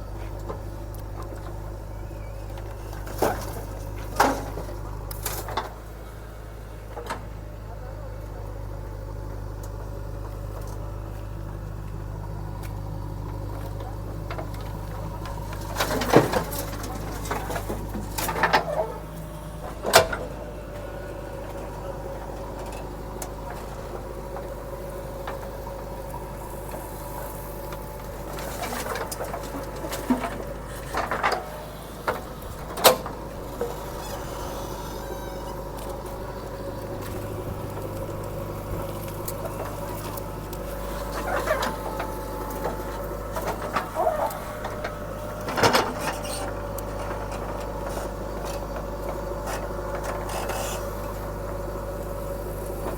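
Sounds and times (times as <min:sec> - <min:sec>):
backhoe diesel engine running: 0:00.0 - 0:52.9.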